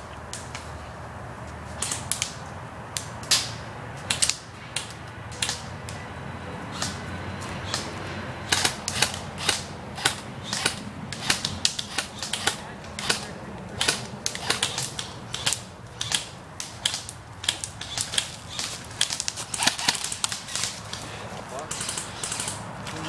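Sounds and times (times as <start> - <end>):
airsoft gunshots snapping: 1.8 - 6.0, 7.6 - 21.0, 21.6 - 23.0.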